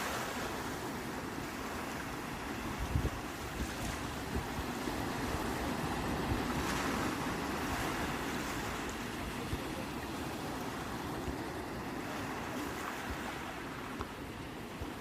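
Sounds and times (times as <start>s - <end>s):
ocean waves washing on shore: 0.0s - 15.0s
wind on microphone: 0.0s - 15.0s.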